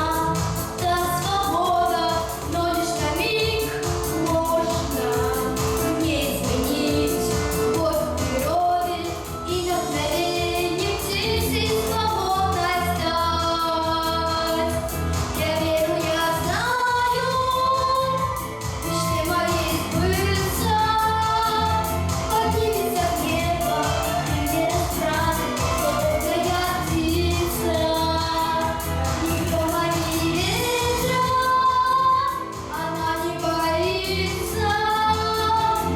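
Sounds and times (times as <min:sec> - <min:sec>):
backing track with beat and bass: 0:00.0 - 0:35.9
woman singing pop song: 0:00.0 - 0:35.9.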